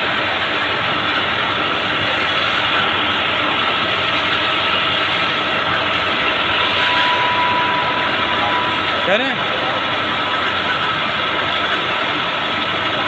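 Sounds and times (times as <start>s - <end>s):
high whine: 0.0s - 13.0s.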